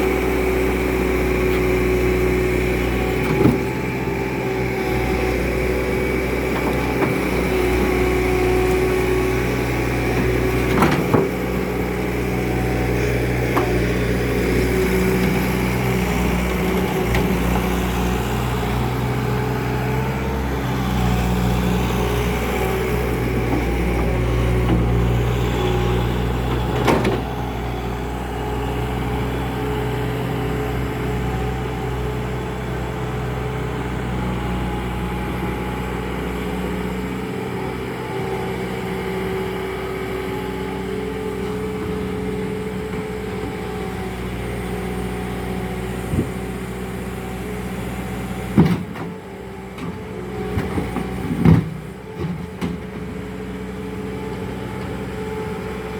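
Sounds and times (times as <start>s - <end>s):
loader engine running: 0.0s - 55.9s.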